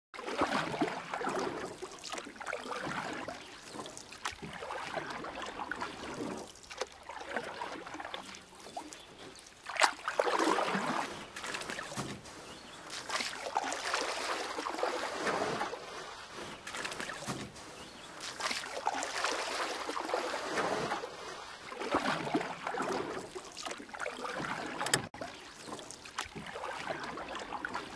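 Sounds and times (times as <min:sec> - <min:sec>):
water splashing and trickling: 0:00.2 - 0:27.9.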